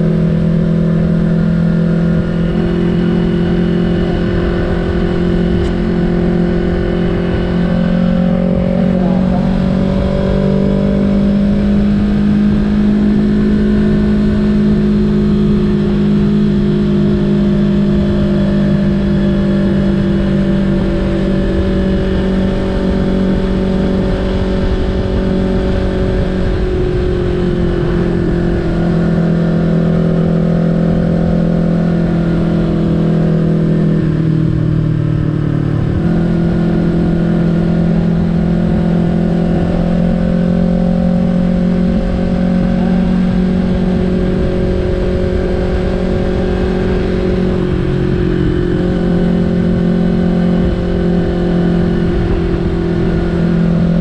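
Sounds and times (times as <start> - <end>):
motorcycle engine cruising: 0.0 - 54.0
wind rush: 0.0 - 54.0.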